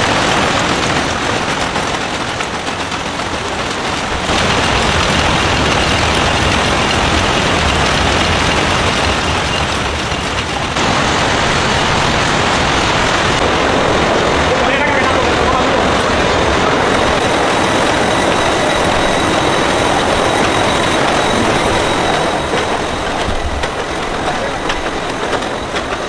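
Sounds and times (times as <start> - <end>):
machinery clattering: 0.0 - 26.0.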